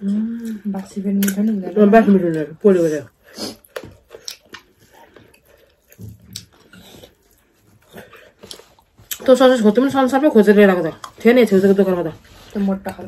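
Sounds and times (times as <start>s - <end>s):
people chewing and smacking: 0.0s - 13.0s.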